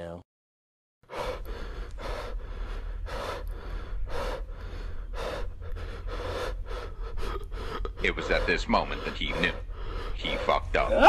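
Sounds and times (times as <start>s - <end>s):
person panting heavily: 1.1s - 11.0s.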